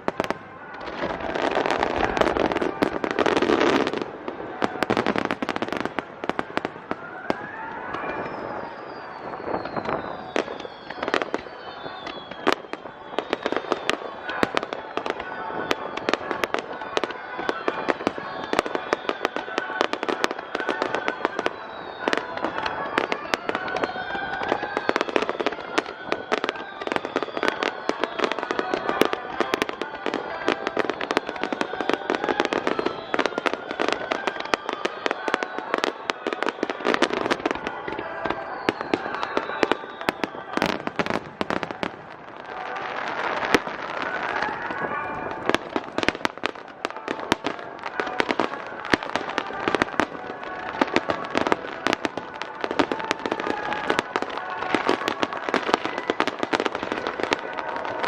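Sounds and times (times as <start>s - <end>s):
fireworks crackling: 0.0s - 58.0s
fireworks shells bursting: 0.0s - 58.0s.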